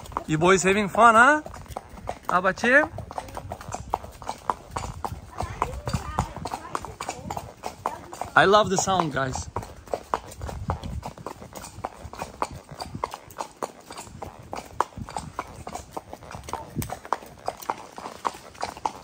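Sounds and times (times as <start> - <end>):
horses' hooves clip-clopping: 0.0 - 19.0.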